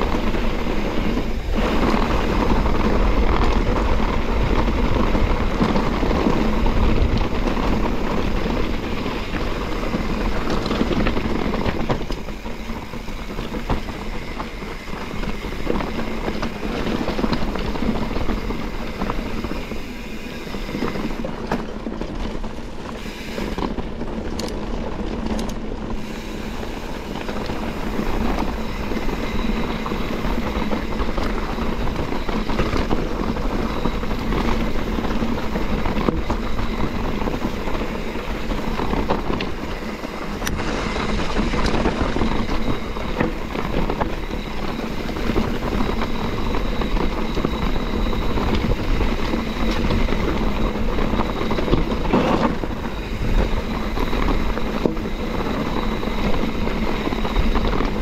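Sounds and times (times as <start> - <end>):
bike rattling: 0.0 - 58.0
wind buffeting microphone: 0.0 - 58.0.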